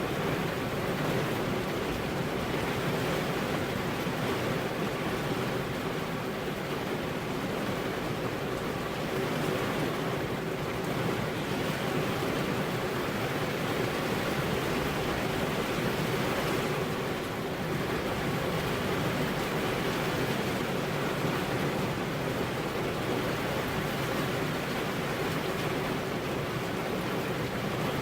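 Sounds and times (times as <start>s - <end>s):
steady rainfall: 0.0s - 28.0s.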